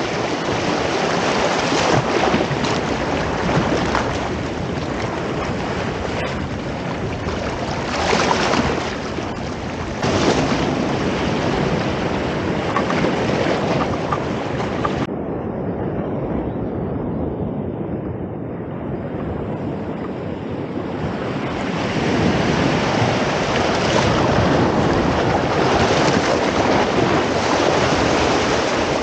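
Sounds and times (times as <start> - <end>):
ocean waves over rocks: 0.0 - 15.1, 19.5 - 29.0.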